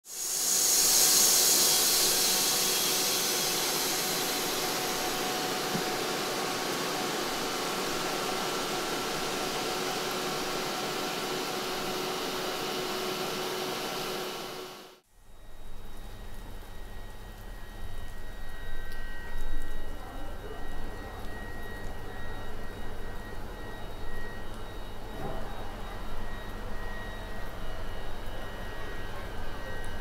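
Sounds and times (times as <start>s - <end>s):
mechanical whine: 0.1s - 30.0s.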